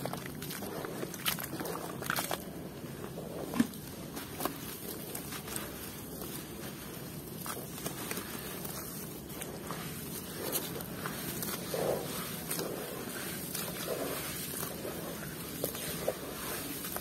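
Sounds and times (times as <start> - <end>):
crumbling dirt crackling: 0.0 - 17.0
hands squelching wet mud: 0.0 - 17.0.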